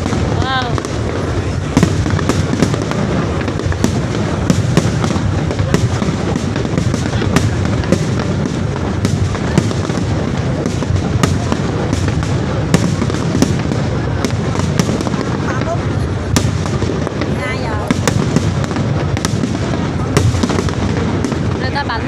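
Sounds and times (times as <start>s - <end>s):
fireworks bangs and cracks: 0.0s - 22.0s
low rumble of fireworks: 0.0s - 22.0s.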